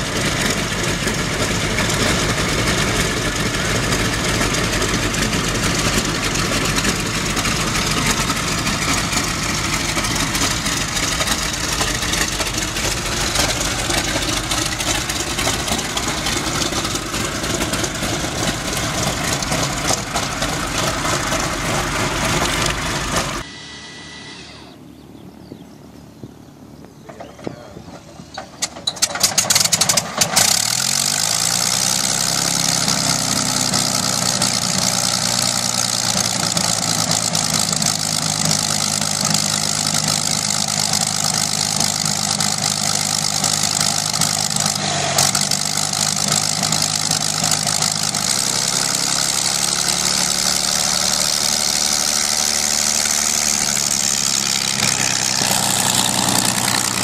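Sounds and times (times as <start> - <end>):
aircraft engine starting and idling: 0.0 - 57.0.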